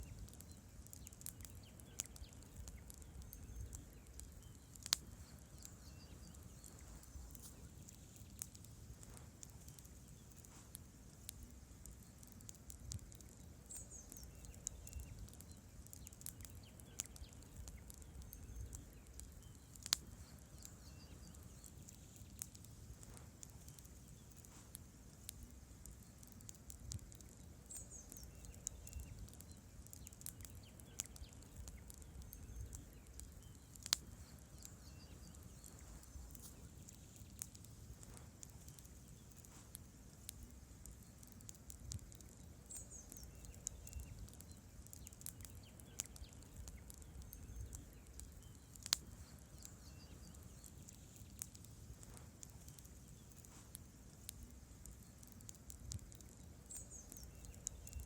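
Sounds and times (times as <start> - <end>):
sharp wood snaps: 0.0 - 5.8, 6.6 - 58.0
campfire crackling: 0.0 - 58.0
low rumble of flames: 0.0 - 58.0.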